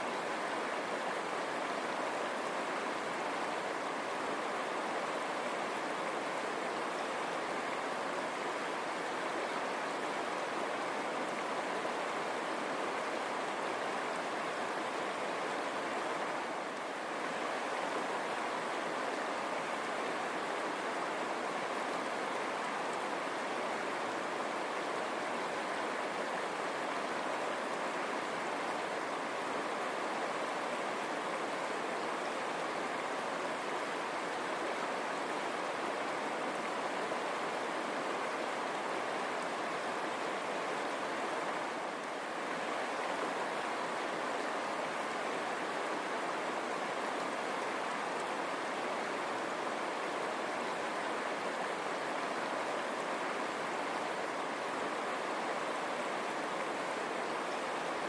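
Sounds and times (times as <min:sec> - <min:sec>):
river water over stones: 0:00.0 - 0:58.0.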